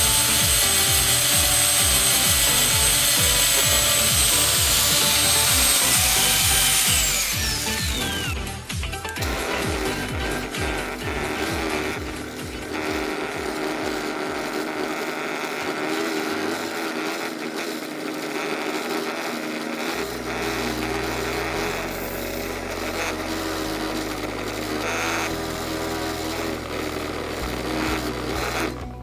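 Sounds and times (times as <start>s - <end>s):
lathe motor hum: 0.0s - 29.0s
turning tool scraping wood: 0.0s - 29.0s.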